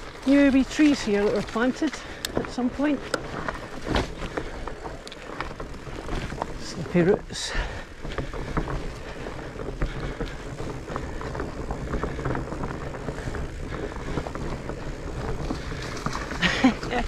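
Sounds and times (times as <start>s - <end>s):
bike rattling and knocking: 0.0s - 17.0s
tyres rumbling on dirt: 0.0s - 17.0s.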